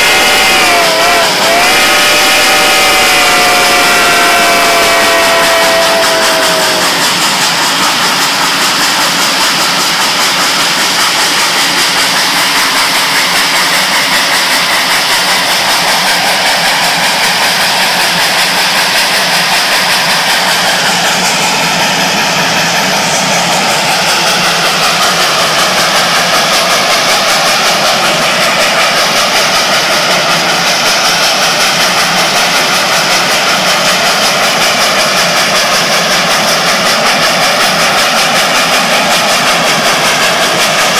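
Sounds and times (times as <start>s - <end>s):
steam whistle: 0.0s - 40.9s.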